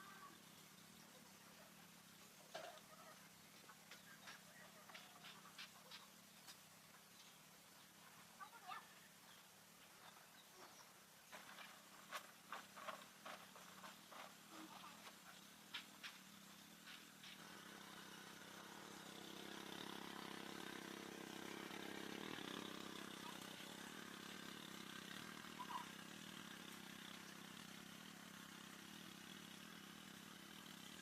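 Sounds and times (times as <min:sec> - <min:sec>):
faint engine drone: 0:00.0 - 0:31.0.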